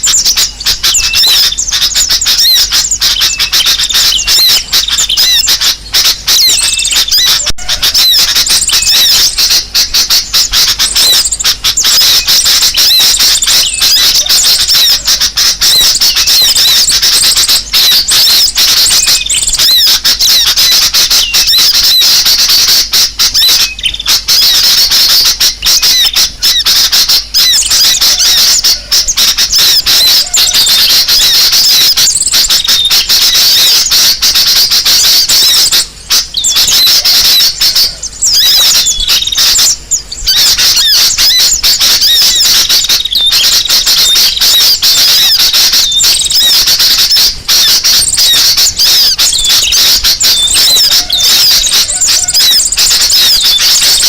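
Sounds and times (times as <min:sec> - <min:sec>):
small birds chirping and squawking: 0:00.0 - 0:54.0.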